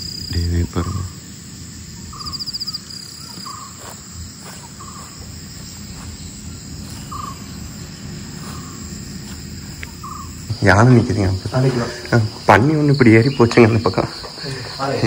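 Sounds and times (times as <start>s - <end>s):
insect and cricket chorus: 0.0s - 15.0s
pulsed cricket trill: 0.0s - 15.0s.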